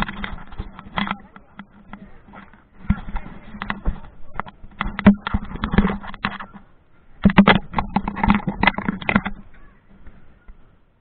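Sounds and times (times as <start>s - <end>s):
camera handling knocks and rubbing: 0.0s - 6.6s, 7.2s - 10.2s.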